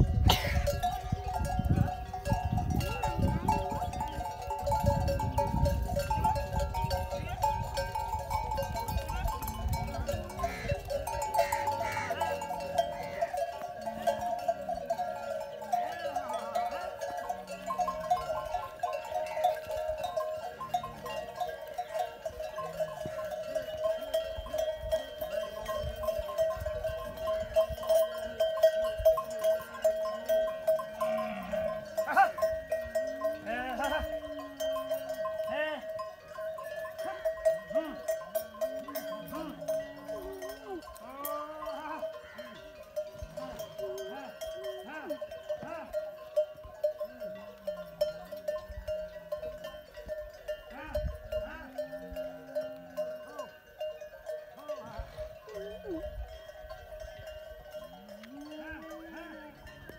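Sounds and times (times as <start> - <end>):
camels calling: 0.0 - 48.2, 50.6 - 53.6, 54.4 - 59.9
camel bells ringing and clanking: 0.0 - 59.9.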